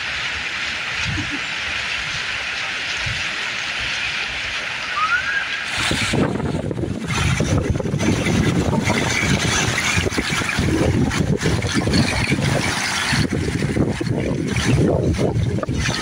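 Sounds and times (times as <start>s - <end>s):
rushing river rapid: 0.0s - 16.0s
whitewater wave churning: 0.0s - 16.0s
wind buffeting microphone: 0.9s - 16.0s.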